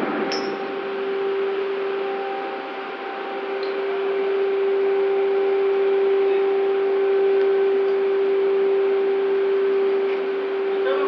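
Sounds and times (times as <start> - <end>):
heavy machinery humming: 0.0 - 11.0.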